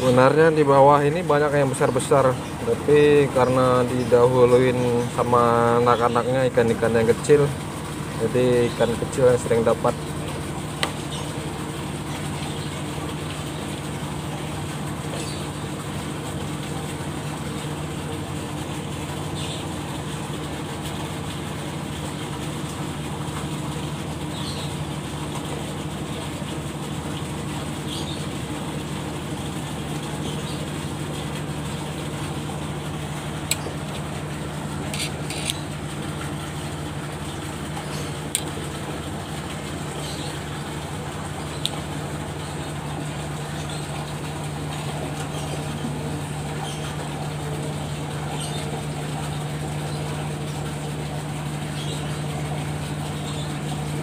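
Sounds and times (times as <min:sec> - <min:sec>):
low engine hum: 0:00.0 - 0:54.0.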